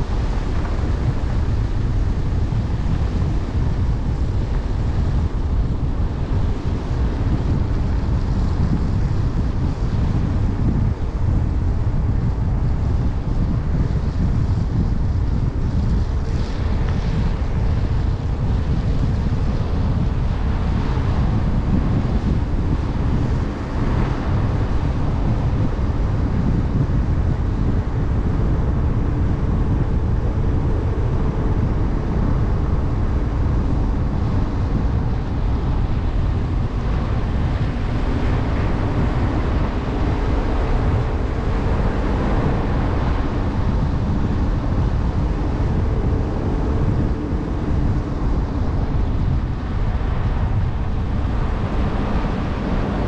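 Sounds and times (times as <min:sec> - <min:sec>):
faint hum: 0:00.0 - 0:53.0
tyres rumbling on road: 0:00.0 - 0:53.0
wind on microphone: 0:00.0 - 0:53.0.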